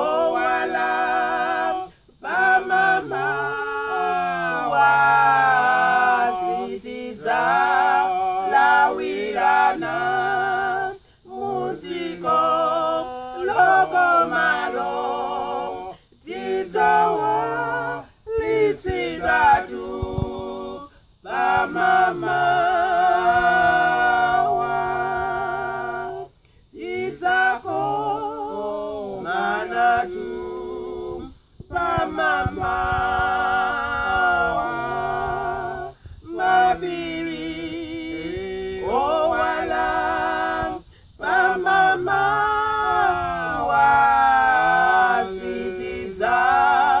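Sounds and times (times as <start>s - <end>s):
people singing a hymn a cappella: 0.0s - 47.0s.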